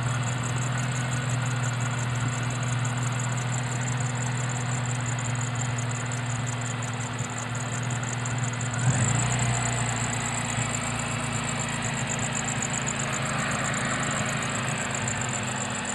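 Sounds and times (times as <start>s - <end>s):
car engine idling: 0.0s - 15.9s.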